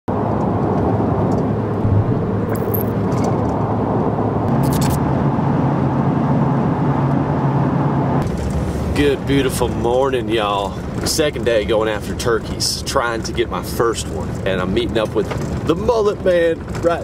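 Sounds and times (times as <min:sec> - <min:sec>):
vehicle engine and tyre noise: 0:00.1 - 0:17.0.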